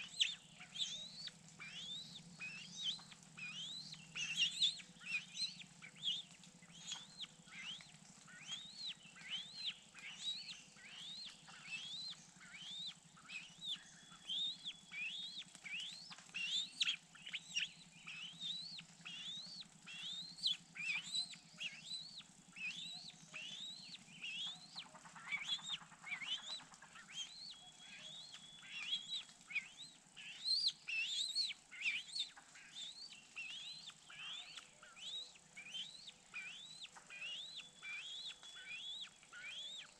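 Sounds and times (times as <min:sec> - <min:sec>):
bird chirping: 0:00.0 - 0:39.9
faint low hum: 0:00.0 - 0:39.9.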